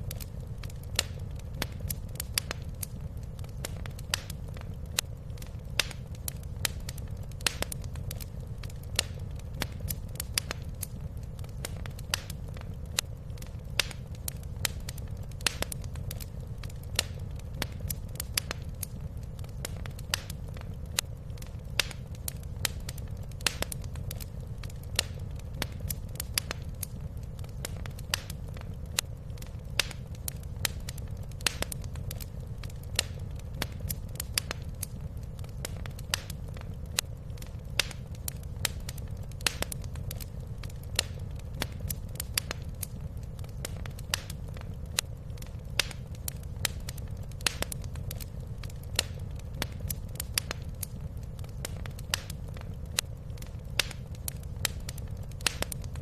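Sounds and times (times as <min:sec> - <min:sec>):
low rumble of burning fire: 0:00.0 - 0:56.0
wood fire crackling: 0:00.0 - 0:56.0.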